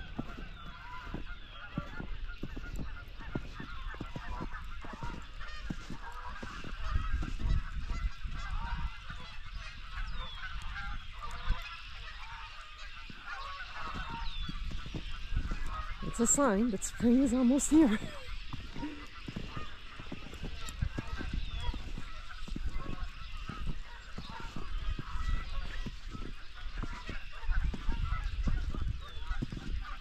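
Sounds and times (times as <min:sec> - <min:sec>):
flock of birds chattering: 0:00.0 - 0:30.0.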